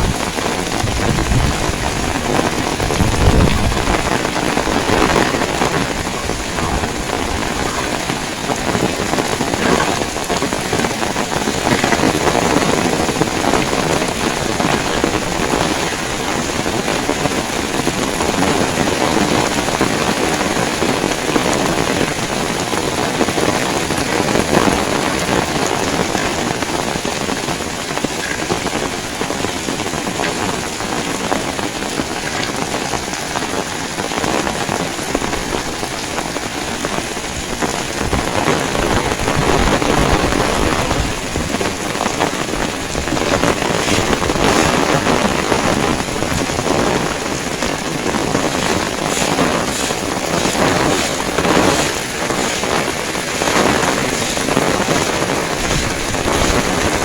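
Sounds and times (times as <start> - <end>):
heavy rain pouring: 0.0 - 57.0
strong wind gusting: 0.0 - 57.0.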